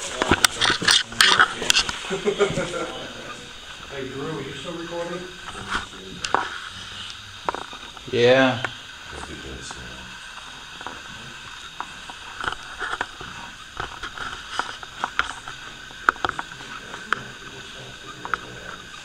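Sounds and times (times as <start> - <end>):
background hiss: 0.0 - 19.0
faint high hum: 0.0 - 19.0.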